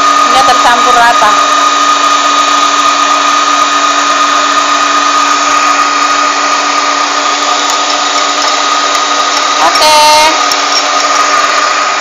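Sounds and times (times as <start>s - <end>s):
stand mixer whipping batter: 0.0s - 12.0s.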